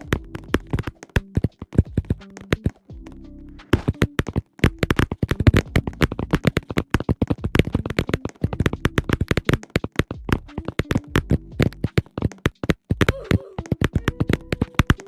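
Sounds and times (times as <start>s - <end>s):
bubble wrap popping: 0.0s - 15.0s.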